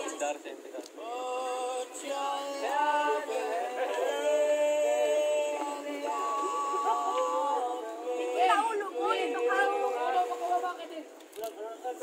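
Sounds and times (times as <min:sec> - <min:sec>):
voices singing long notes: 0:01.0 - 0:11.0.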